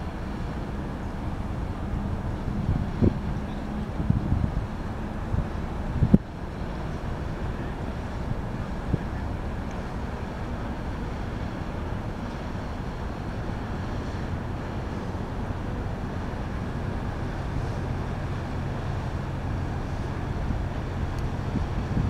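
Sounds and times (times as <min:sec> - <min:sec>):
barge diesel engine drone: 0:00.0 - 0:22.0.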